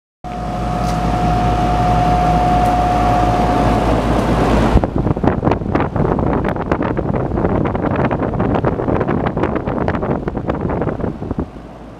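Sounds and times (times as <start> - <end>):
fan air buffeting microphone: 0.3 - 11.9
heat pump humming and whining: 0.3 - 11.9.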